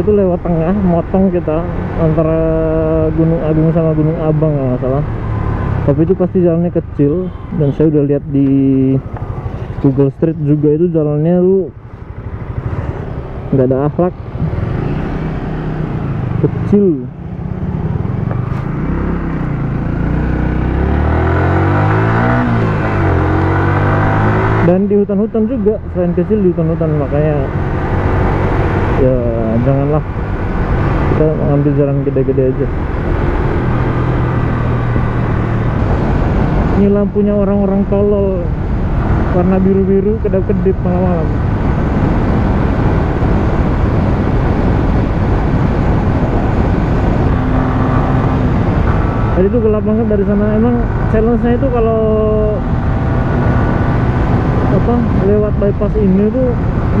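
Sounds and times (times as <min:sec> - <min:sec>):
wind and road noise: 0:00.0 - 0:57.0
motorcycle engine accelerating: 0:08.3 - 0:57.0.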